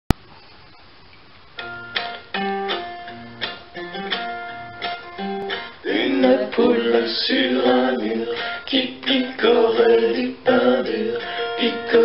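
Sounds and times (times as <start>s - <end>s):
plucked guitar notes: 1.6s - 12.0s.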